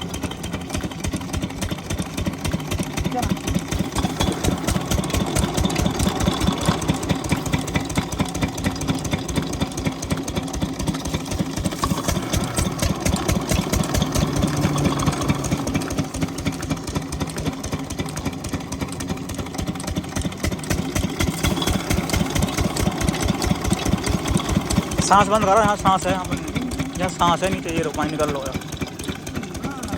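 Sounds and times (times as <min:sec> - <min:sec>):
diesel engine chugging: 0:00.0 - 0:29.9.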